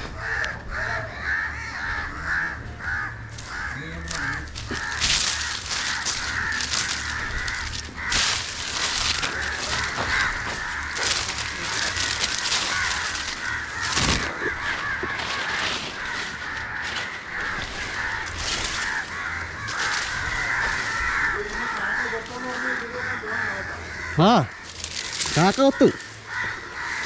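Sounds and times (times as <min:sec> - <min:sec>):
crows cawing: 0:00.0 - 0:27.0.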